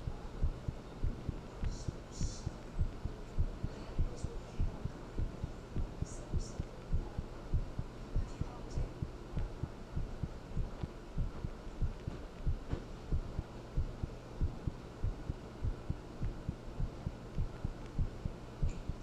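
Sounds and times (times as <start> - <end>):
faint low hum: 0.0 - 19.0
heartbeat thumps: 0.0 - 19.0.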